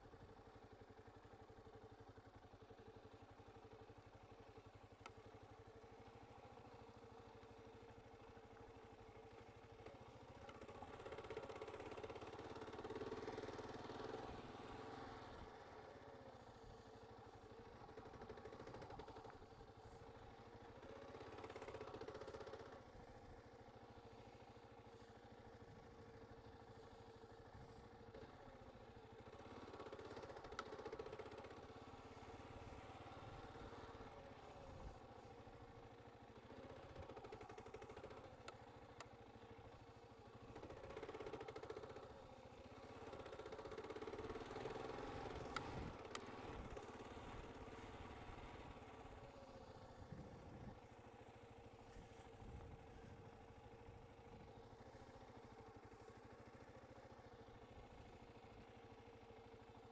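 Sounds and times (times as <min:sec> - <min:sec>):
faint motorcycle engine: 0:00.0 - 0:59.9.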